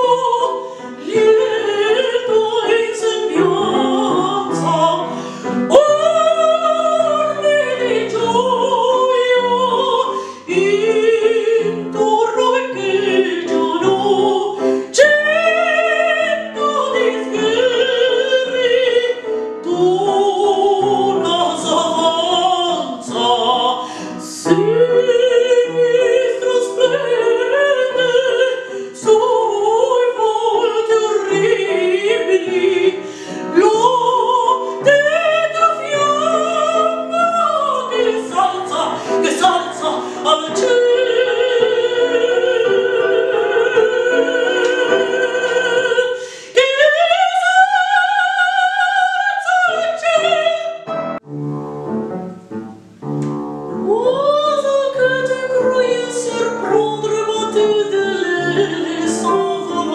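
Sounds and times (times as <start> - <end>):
woman singing with vibrato: 0.0 - 51.0, 53.7 - 59.9
upright piano: 0.0 - 59.9.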